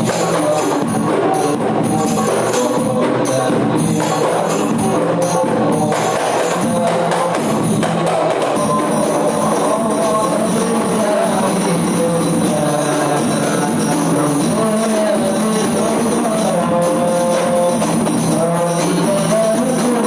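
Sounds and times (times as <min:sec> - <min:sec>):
frame drum ensemble playing: 0:00.0 - 0:20.0.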